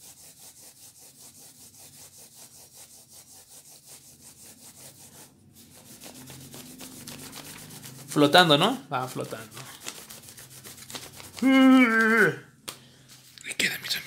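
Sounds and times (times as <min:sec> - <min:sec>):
pencil shading on paper: 0:00.0 - 0:11.4.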